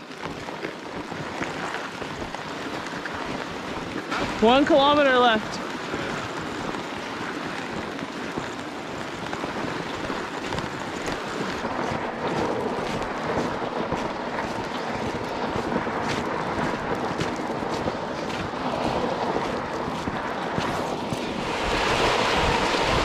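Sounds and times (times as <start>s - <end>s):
footsteps crunching on snow: 0.0s - 23.0s
freezing rain hissing: 0.0s - 23.0s
toboggan runners scraping snow: 0.0s - 23.0s.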